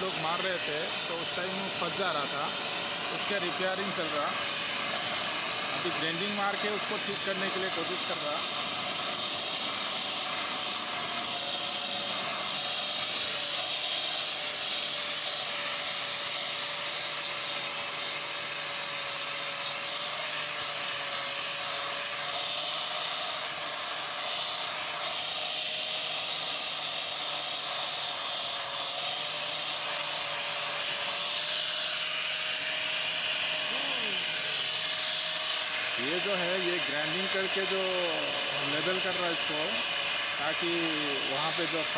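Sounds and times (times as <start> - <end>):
angle grinder grinding steel: 0.0 - 41.9.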